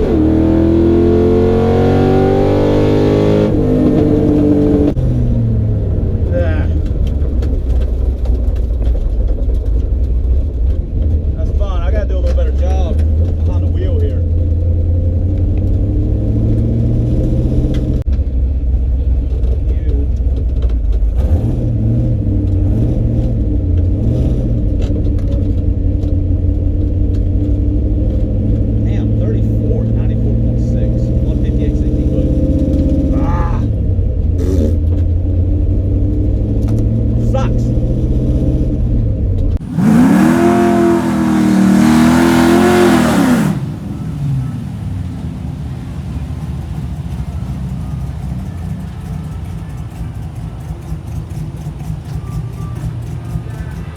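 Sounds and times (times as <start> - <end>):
car engine revving at low revs: 0.0 - 53.9.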